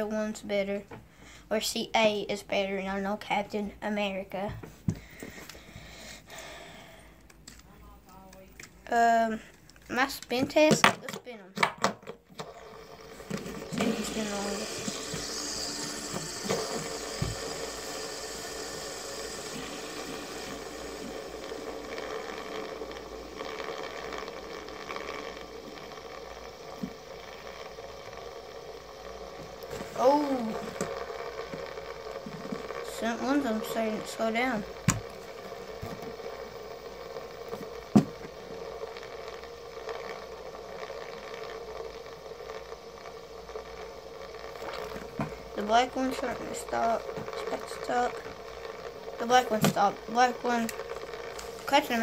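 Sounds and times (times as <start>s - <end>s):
fidget spinners whirring: 0.0s - 11.6s, 12.2s - 52.0s.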